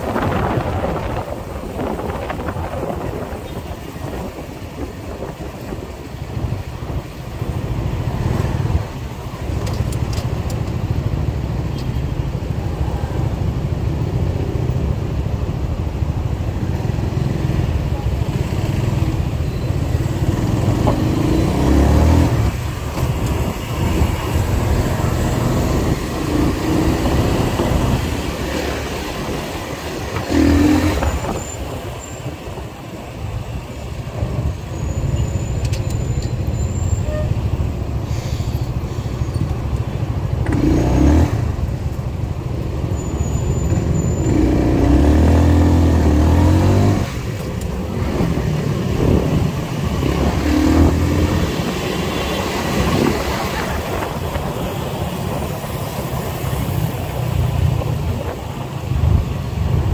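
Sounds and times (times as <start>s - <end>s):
surrounding traffic noise: 0.0s - 59.9s.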